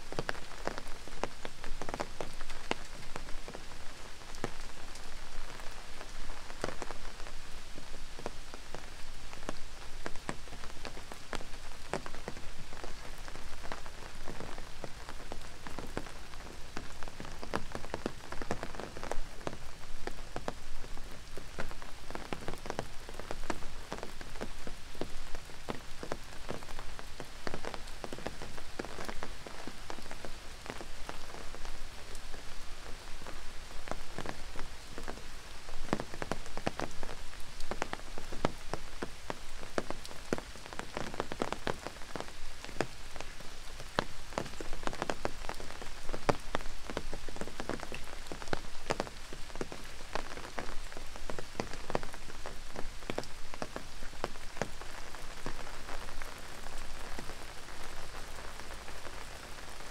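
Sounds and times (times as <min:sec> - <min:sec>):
rain drops striking a surface: 0:00.0 - 0:59.9.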